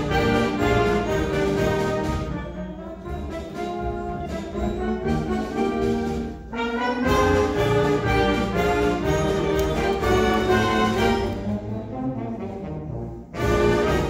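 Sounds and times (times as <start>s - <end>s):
wind band playing sustained chords: 0.0s - 14.0s.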